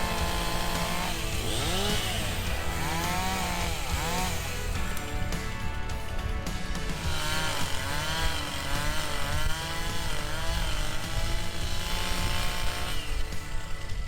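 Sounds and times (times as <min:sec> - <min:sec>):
chainsaw cutting: 0:00.0 - 0:14.0.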